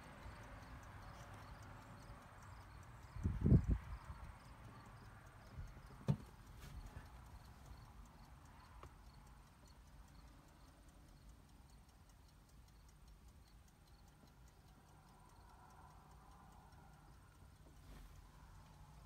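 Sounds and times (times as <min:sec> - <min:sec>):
fast regular ticking: 0:00.0 - 0:19.0.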